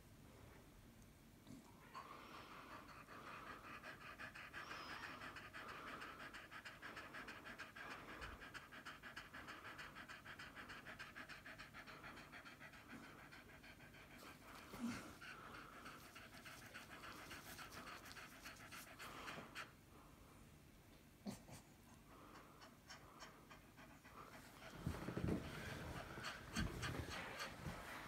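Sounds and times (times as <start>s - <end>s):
dog panting: 1.9s - 20.3s, 21.3s - 28.0s.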